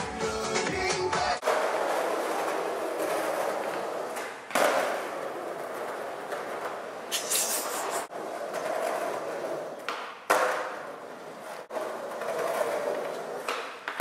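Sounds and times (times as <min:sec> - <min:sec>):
skateboard wheels rolling on concrete: 0:00.0 - 0:14.0
skateboard clack: 0:01.2 - 0:07.1, 0:08.0 - 0:14.0.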